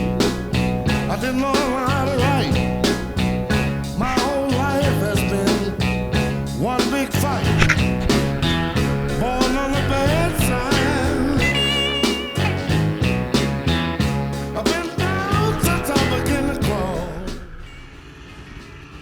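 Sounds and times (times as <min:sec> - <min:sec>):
rock music with drums and guitar: 0:00.0 - 0:19.0.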